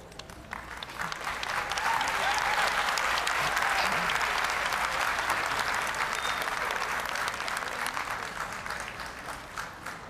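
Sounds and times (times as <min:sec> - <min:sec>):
audience applauding: 0:00.2 - 0:10.0.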